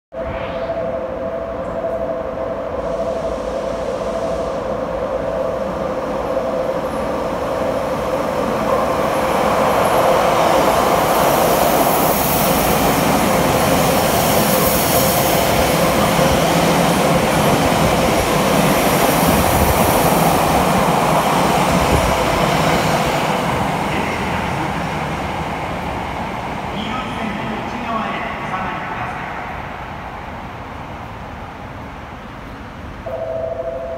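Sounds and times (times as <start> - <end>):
high hiss of passing train: 0.2 - 33.6
train rumble and wheel noise: 0.2 - 33.9.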